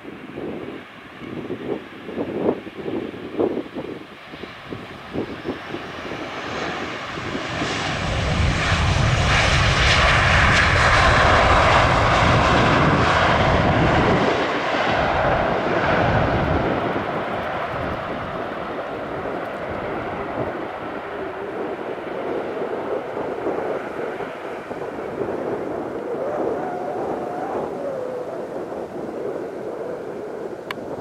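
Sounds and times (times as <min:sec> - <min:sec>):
wind buffeting microphone: 0:00.0 - 0:31.0
jet engine reverse thrust roar: 0:03.4 - 0:31.0.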